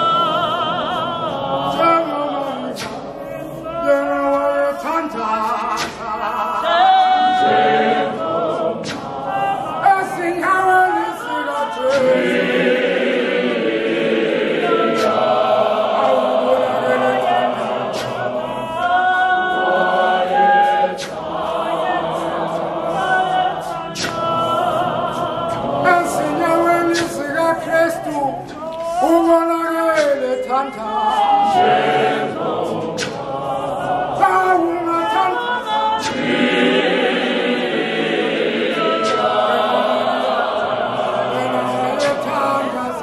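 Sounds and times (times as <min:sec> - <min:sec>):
choir singing a hymn: 0:00.0 - 0:43.0.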